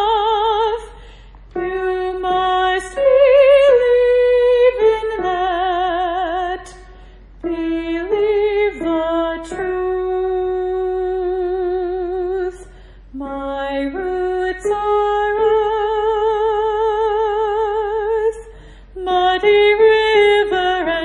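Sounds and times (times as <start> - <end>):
woman singing soprano with vibrato: 0.0 - 21.0.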